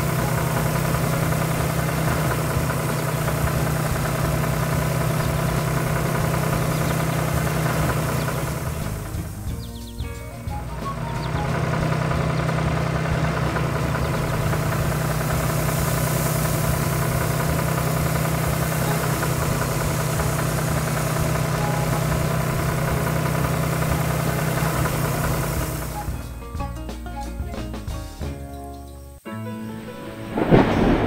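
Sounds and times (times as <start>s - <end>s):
tractor engine running: 0.0s - 29.2s.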